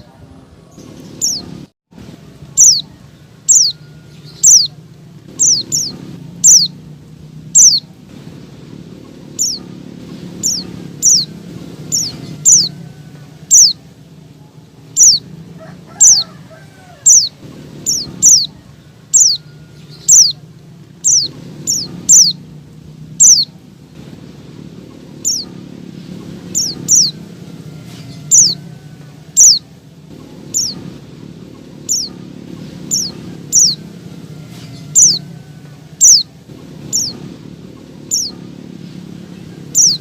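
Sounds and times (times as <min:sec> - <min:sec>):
bird calling with falling notes: 0:00.0 - 0:40.0
steady low hum: 0:00.0 - 0:40.0.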